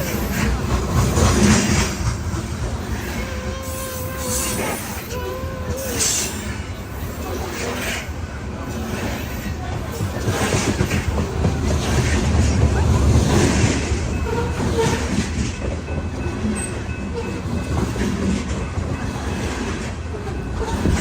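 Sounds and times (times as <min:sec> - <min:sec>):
faint clicking of train wheels: 0:00.0 - 0:21.0
train wheels rumbling on rail: 0:00.0 - 0:21.0.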